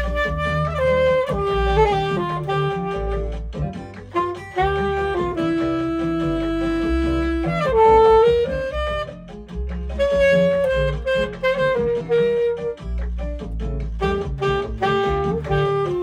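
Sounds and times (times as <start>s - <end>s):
alto saxophone jazzy melody: 0.0s - 16.0s
low bass accompaniment: 0.0s - 16.0s.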